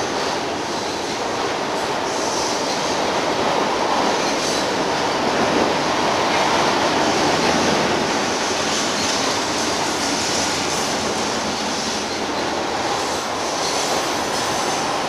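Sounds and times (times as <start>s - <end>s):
freight train rolling over steel bridge: 0.0s - 15.0s.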